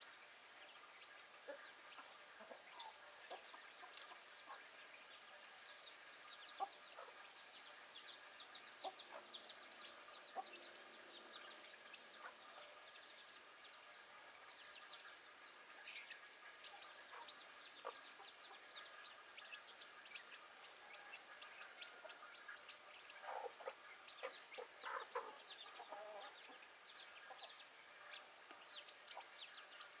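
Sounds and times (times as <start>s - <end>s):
chickens clucking: 0.6s - 30.0s.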